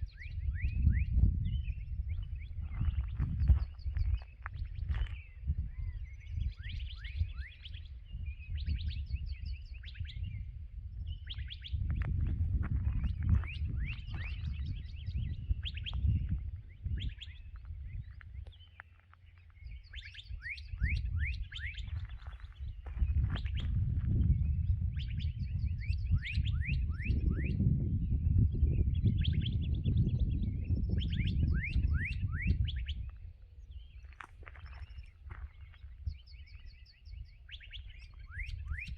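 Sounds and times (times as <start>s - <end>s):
songbirds whistling and trilling: 0.0s - 38.9s.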